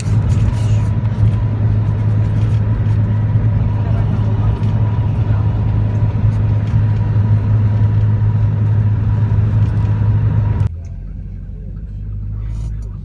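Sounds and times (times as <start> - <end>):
faint whine: 0.0 - 13.0
motor vehicle rumble: 0.0 - 13.0.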